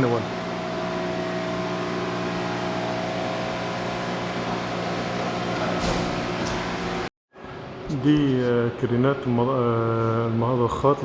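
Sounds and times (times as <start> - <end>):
electric machinery humming: 0.0 - 9.8.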